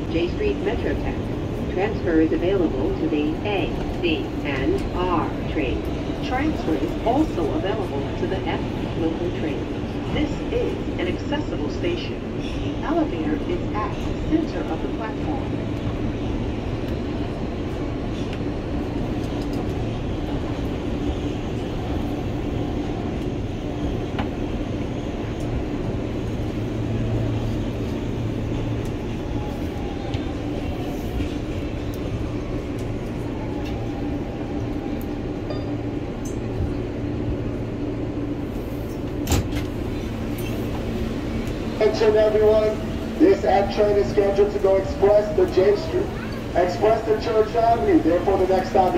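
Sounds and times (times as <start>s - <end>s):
subway train running rumble: 0.0s - 48.9s.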